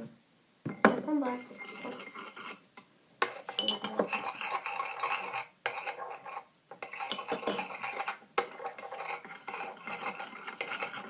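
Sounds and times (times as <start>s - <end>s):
spoon clinking on bowl: 0.7s - 11.0s
spoon stirring slime in bowl: 0.7s - 11.0s.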